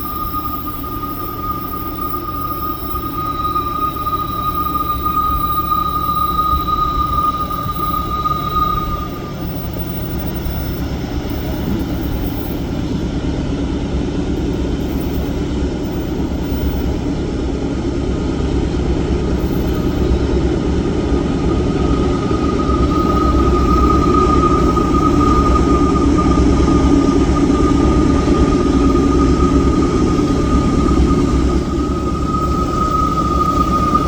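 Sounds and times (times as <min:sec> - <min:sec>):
thin high whine: 0:00.0 - 0:13.6, 0:14.4 - 0:34.0
diesel locomotive engine rumble: 0:00.0 - 0:34.0.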